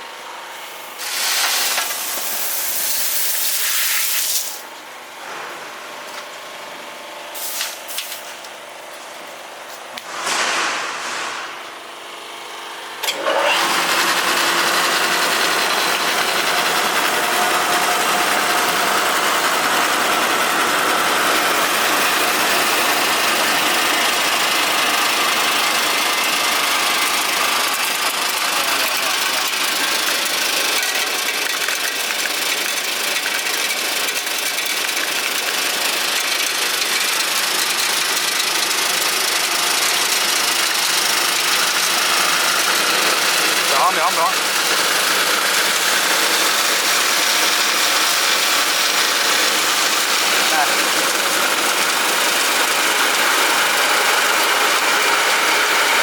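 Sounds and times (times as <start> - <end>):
rice mill machine running: 0.0 - 10.2, 11.0 - 56.0.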